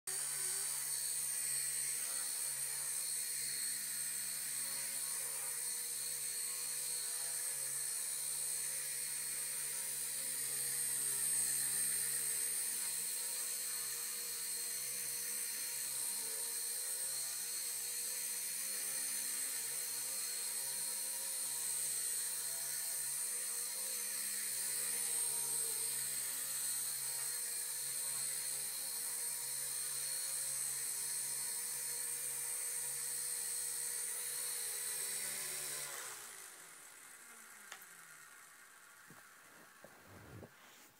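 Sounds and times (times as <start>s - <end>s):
rc helicopter high-pitched whine: 0.1s - 40.6s.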